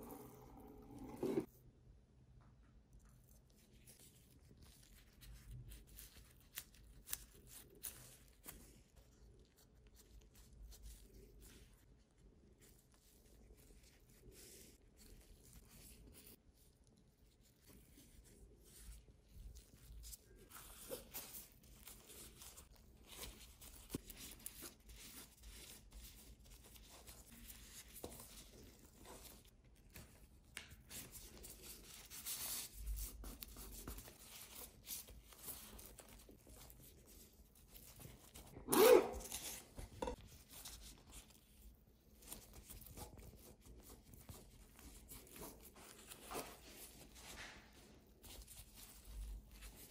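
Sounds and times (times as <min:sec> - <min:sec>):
gloves and seaweed rustling: 0:03.3 - 0:49.9.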